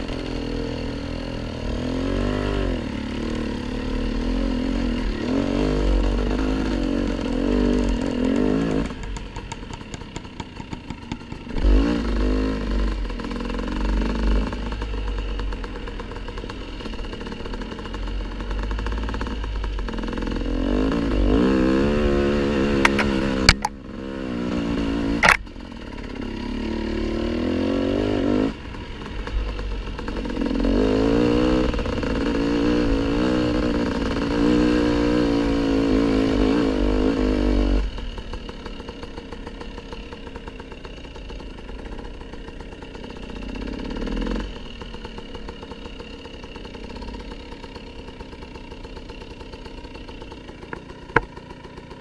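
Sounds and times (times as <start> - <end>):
dirt bike engine: 0.0 - 52.0.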